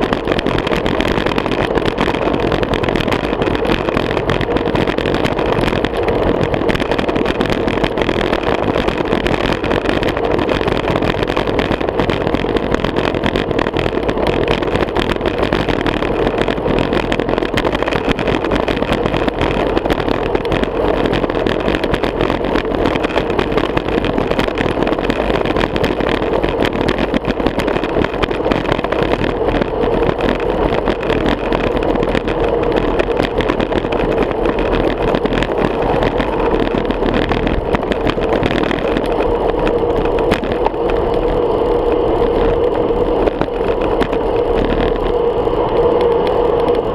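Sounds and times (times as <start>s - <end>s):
bicycle tyres rolling on asphalt: 0.0s - 46.9s
wind noise: 0.0s - 46.9s.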